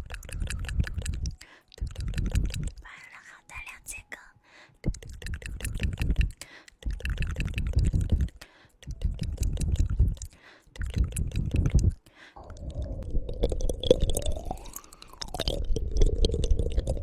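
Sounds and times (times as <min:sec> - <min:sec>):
wet tongue and lip clicks: 0:00.0 - 0:03.0, 0:04.8 - 0:17.0.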